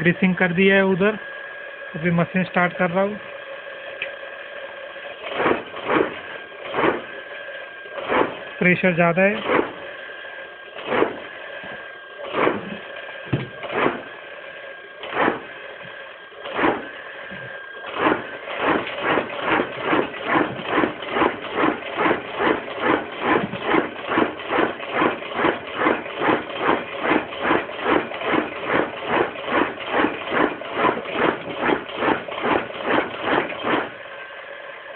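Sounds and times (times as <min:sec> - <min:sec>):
incense stick machine strokes: 0:00.0 - 0:34.9.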